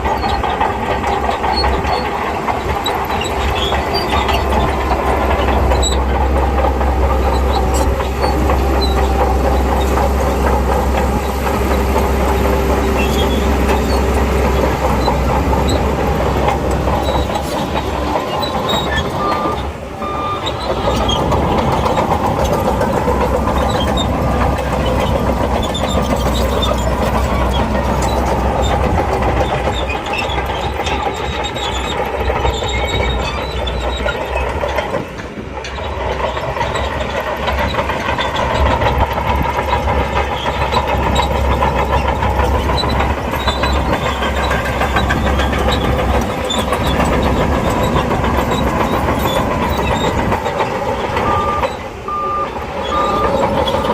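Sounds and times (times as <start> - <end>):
bulldozer diesel engine: 0.0 - 53.9
steel tracks clattering: 0.0 - 53.9.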